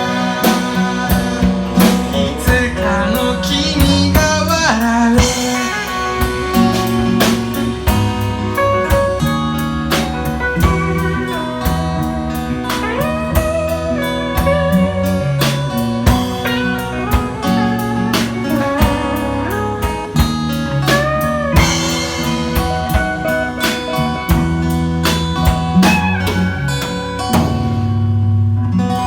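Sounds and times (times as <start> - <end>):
wavering lead line: 0.0 - 28.2
guitars holding chords: 0.0 - 29.0
percussive beat: 3.8 - 28.0.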